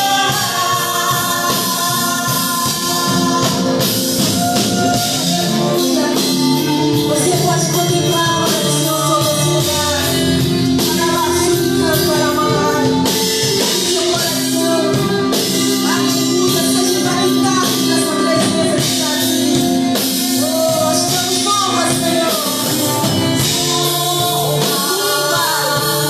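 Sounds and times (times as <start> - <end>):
band playing: 0.0 - 26.0
people singing: 0.0 - 26.0.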